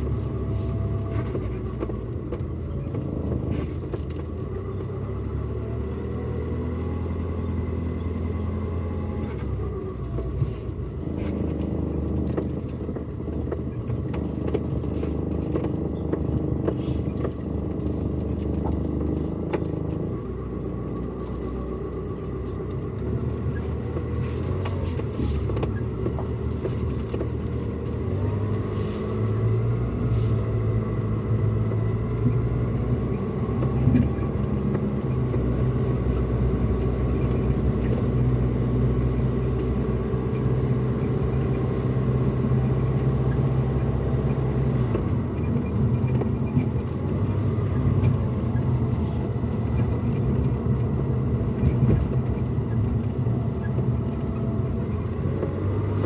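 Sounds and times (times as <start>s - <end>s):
engine and road rumble: 0.0s - 56.0s.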